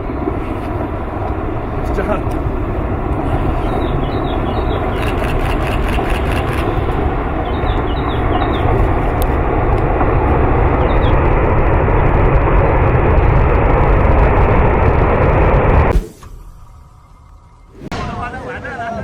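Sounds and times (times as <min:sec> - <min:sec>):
landslide debris flow rumble: 0:00.0 - 0:15.9.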